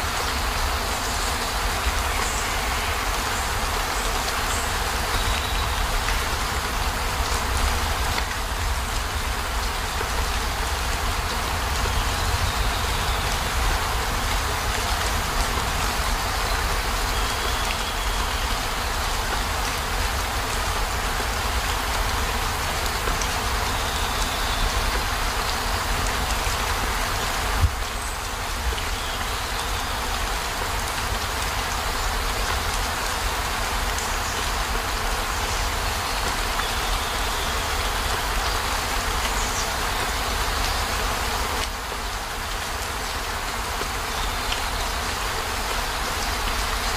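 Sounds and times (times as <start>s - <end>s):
rain pattering on vehicle roof: 3.0s - 46.9s.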